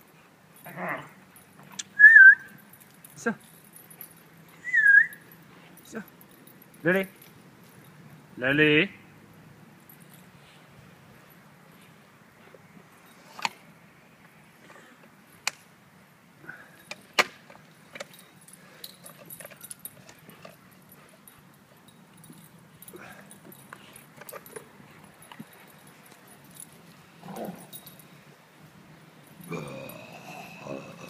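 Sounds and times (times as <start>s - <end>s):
collar tags jingling: 0.0s - 31.0s.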